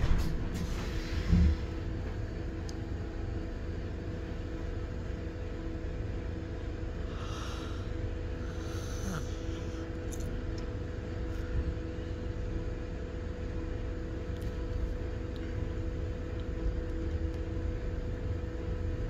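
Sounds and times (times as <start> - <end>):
bus engine and road rumble: 0.0 - 19.0
constant hum: 0.0 - 19.0.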